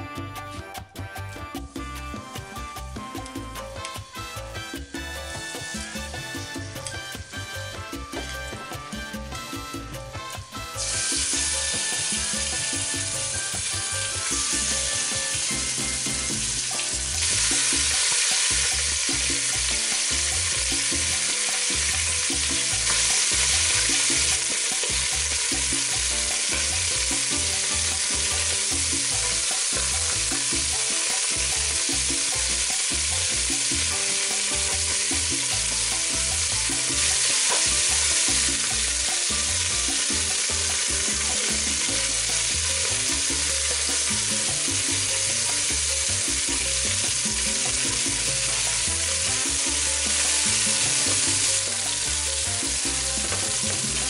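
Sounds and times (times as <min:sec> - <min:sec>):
chicken sizzling in hot oil: 0:01.6 - 0:54.0.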